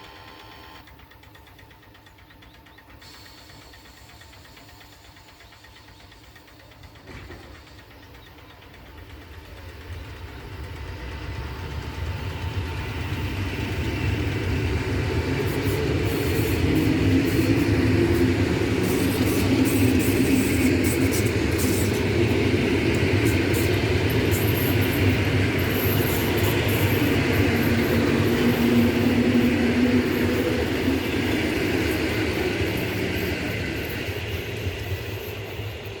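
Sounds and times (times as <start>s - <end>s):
electric train running past: 0.0s - 36.0s.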